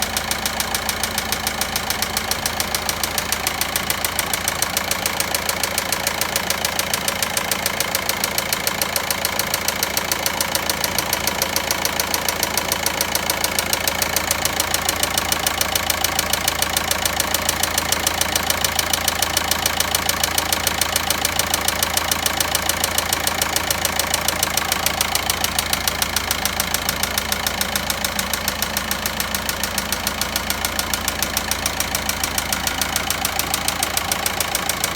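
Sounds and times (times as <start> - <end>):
diesel engine idling with knocking: 0.0 - 34.9.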